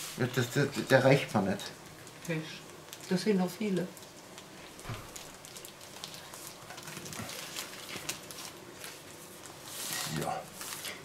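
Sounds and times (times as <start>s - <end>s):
baking paper crinkling: 0.0s - 11.0s.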